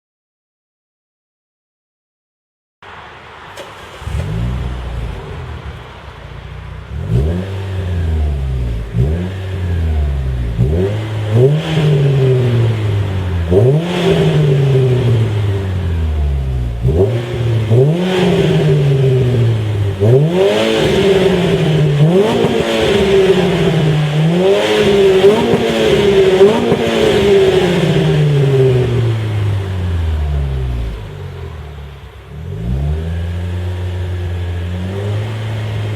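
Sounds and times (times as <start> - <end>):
car engine idling and revving: 2.8 - 35.9.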